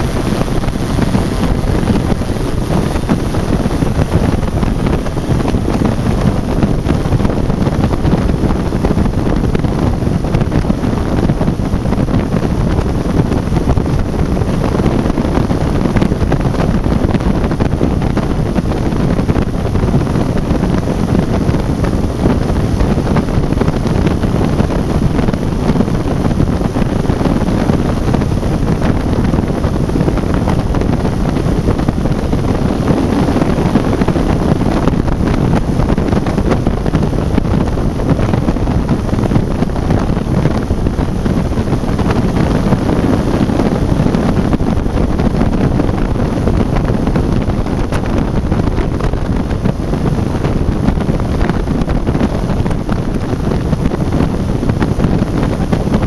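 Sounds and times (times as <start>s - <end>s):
aircraft engine and propeller drone: 0.0s - 56.0s
wind rushing over microphone: 0.0s - 56.0s.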